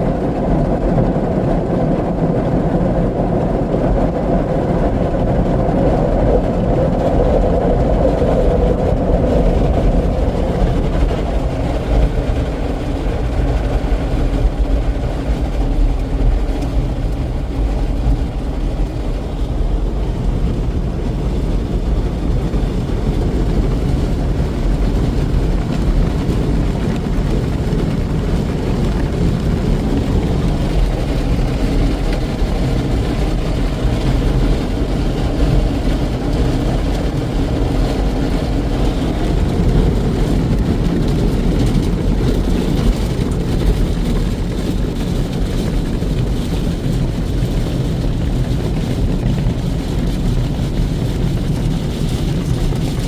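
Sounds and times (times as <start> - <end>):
car polisher low rumble: 0.0 - 53.0.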